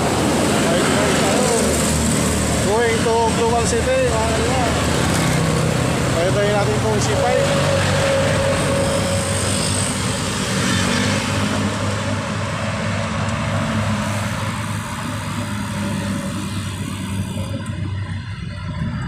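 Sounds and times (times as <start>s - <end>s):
low engine hum: 0.0s - 19.0s
passing vehicles: 0.0s - 19.0s.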